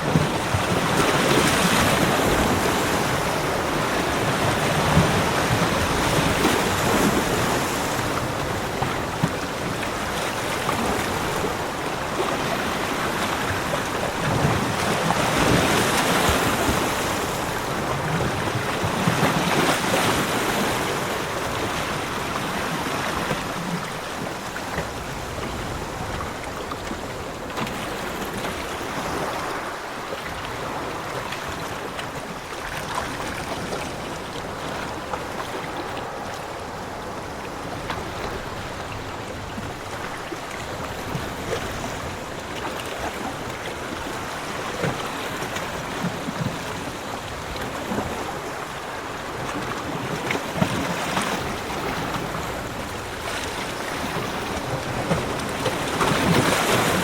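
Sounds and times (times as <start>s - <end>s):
ocean surf breaking on beach: 0.0s - 57.0s.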